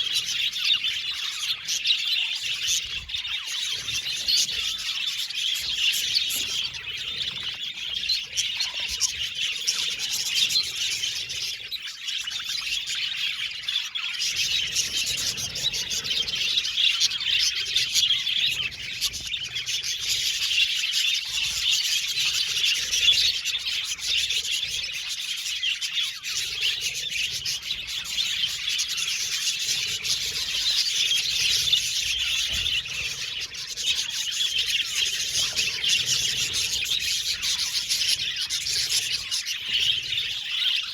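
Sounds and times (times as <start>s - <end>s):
budgies chirping: 0.0s - 40.9s.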